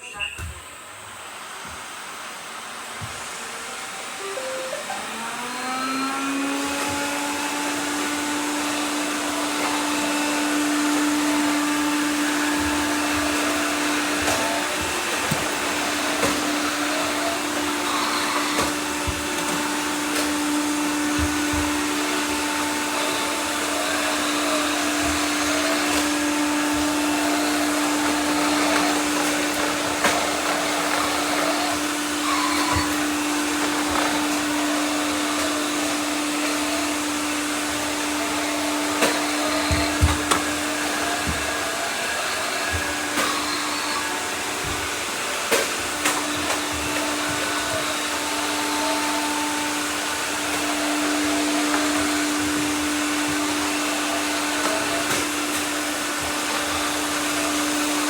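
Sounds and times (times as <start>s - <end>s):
robot vacuums whining: 0.0s - 58.0s.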